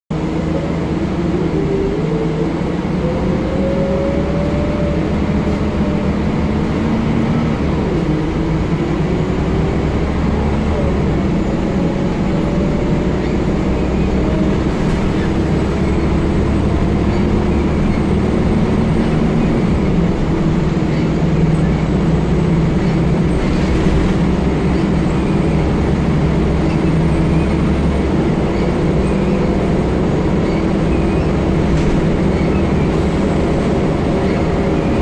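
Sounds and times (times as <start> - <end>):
bus diesel engine drone: 0.1 - 35.0
road noise: 0.1 - 35.0.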